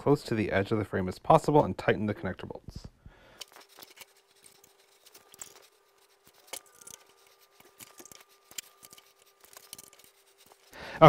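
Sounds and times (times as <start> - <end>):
faint steady hum: 0.2 - 11.0.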